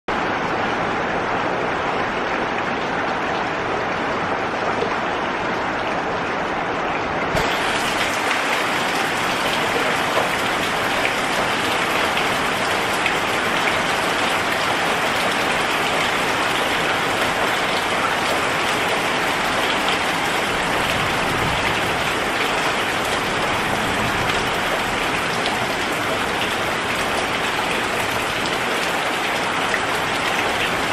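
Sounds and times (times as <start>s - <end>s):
heavy rain on leaves and metal roof: 0.1s - 30.9s.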